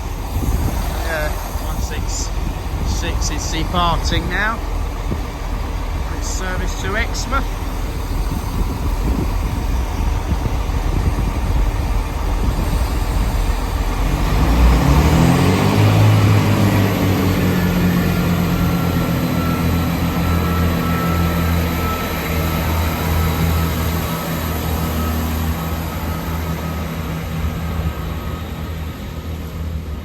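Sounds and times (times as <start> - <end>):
diesel train engines accelerating: 0.0 - 30.0.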